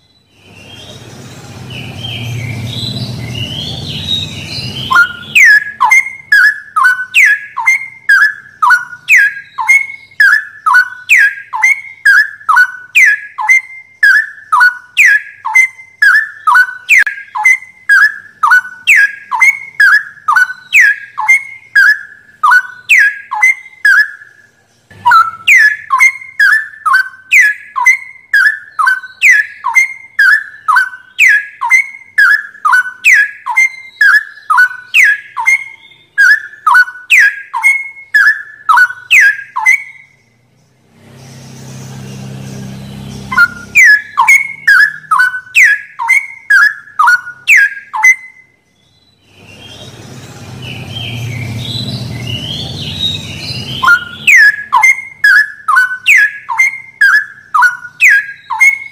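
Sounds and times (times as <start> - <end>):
bird singing whistled notes: 0.0 - 58.9
faint high chirps: 0.0 - 58.9.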